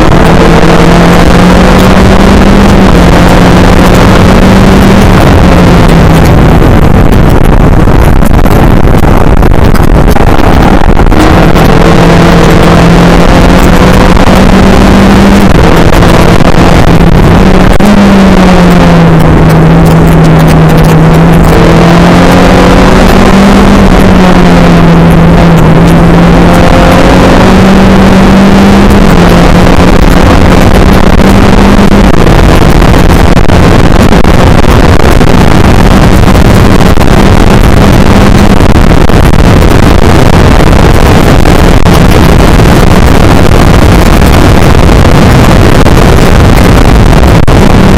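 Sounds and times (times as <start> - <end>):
race car engine at speed: 0.0 - 47.9
wind noise roar: 0.0 - 47.9.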